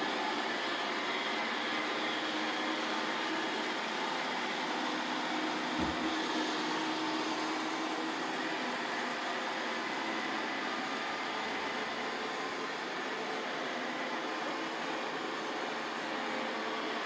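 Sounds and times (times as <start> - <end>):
robot vacuum whirring: 0.4 - 17.0.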